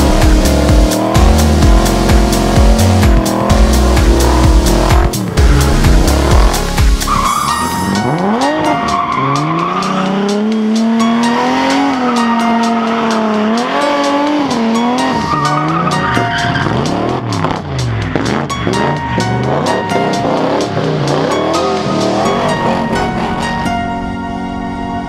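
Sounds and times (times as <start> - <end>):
car engine revving high: 0.0 - 23.7.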